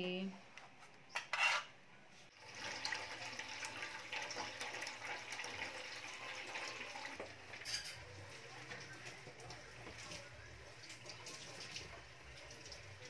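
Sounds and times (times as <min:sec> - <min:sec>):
tap water pouring into metal pot: 0:02.4 - 0:13.0.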